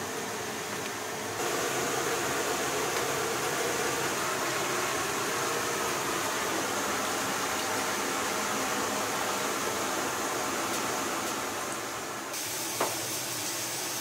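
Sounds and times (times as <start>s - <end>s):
ventilation fan hiss: 0.0s - 14.0s.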